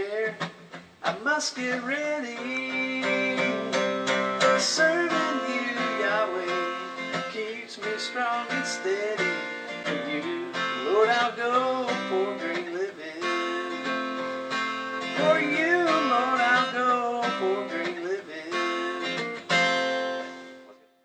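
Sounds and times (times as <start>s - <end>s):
person singing: 0.0s - 19.6s
strummed acoustic guitar: 0.0s - 20.9s.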